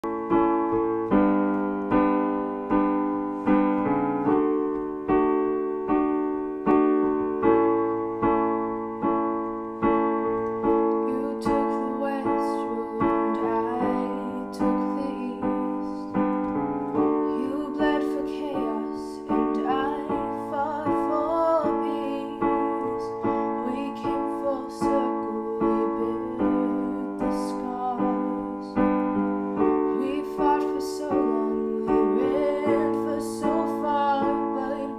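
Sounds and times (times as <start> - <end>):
piano playing slow chords: 0.0 - 34.9.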